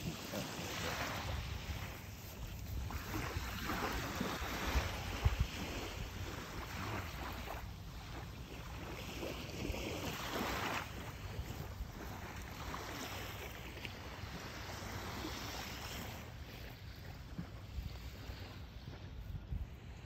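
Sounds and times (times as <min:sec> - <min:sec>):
waves lapping on a sandy shore: 0:00.0 - 0:20.0
wind rumbling on microphone: 0:00.0 - 0:20.0.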